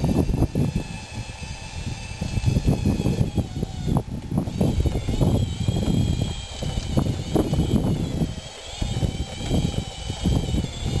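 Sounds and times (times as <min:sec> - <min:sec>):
toy bulldozer motors whining: 0:00.0 - 0:11.0
wind buffeting microphone: 0:00.0 - 0:11.0.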